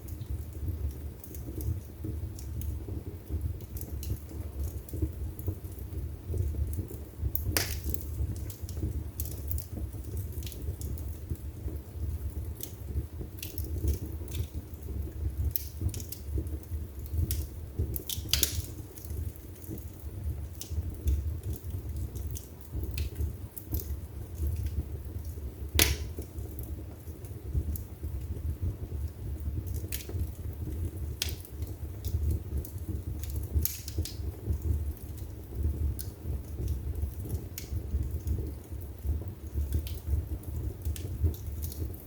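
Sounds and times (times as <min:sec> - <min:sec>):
fire crackling and popping: 0:00.0 - 0:42.0
low rumble of flames: 0:00.0 - 0:42.0.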